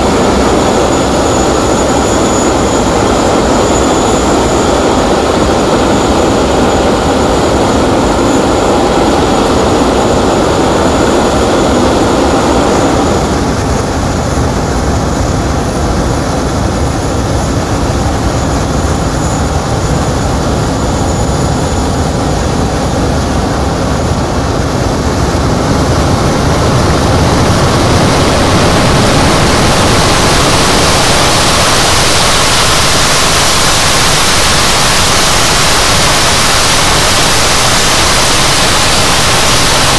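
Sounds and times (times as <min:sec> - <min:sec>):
high jet whine: 0:00.0 - 0:39.9
jet engine roar: 0:00.0 - 0:39.9.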